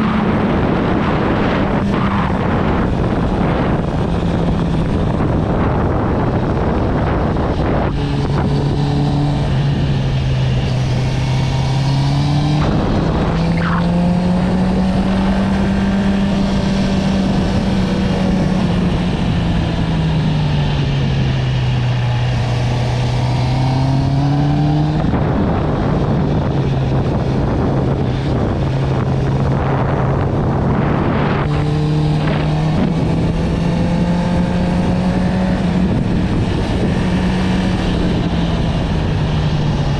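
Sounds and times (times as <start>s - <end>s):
motorcycle engine revving: 0.0s - 39.9s
wind rush over microphone: 0.0s - 39.9s.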